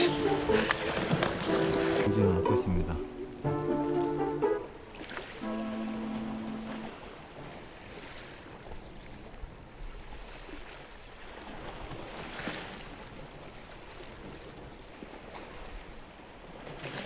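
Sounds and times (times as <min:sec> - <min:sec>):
sea water lapping: 0:00.0 - 0:17.0.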